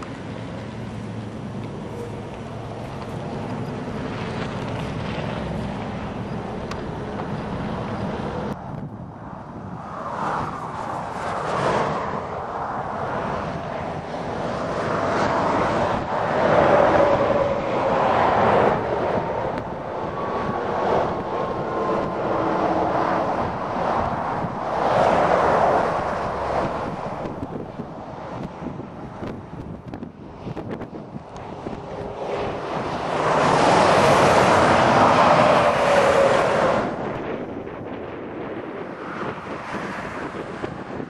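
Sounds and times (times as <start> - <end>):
highway traffic passing: 0.0 - 41.0
wind buffeting microphone: 0.0 - 41.0.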